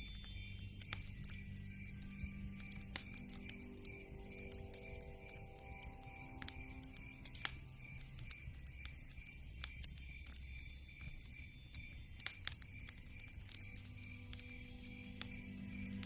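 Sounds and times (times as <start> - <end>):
campfire crackling and popping: 0.0 - 16.0
high pulsing chirp: 0.0 - 16.0.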